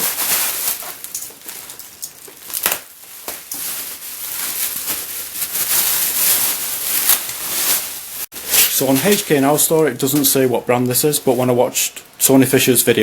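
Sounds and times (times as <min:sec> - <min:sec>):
packaging rustling and crinkling: 0:00.0 - 0:12.7.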